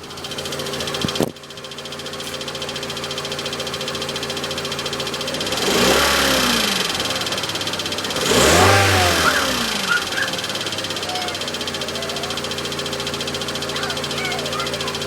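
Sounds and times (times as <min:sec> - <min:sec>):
car engine revving: 0:00.0 - 0:15.0
rapid even engine clicking: 0:00.0 - 0:15.0.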